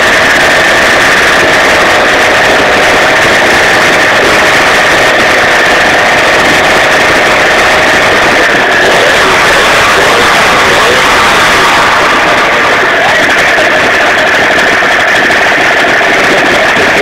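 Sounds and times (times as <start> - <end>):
two-stroke moped engine running: 0.0 - 17.0.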